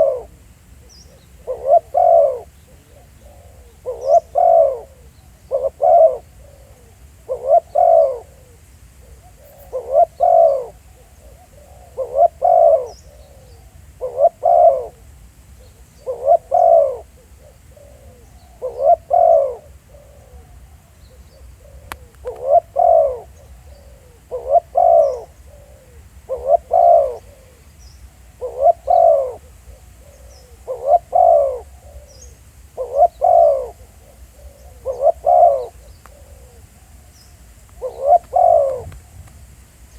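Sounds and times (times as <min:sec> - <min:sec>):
dove cooing: 0:00.0 - 0:39.2.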